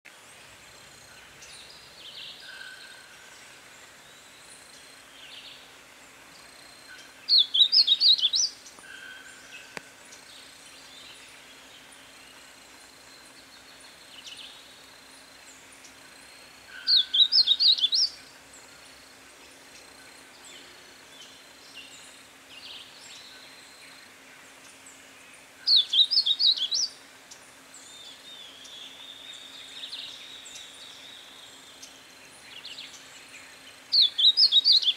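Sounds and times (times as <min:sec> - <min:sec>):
faint calls of other birds: 0:00.1 - 0:34.9.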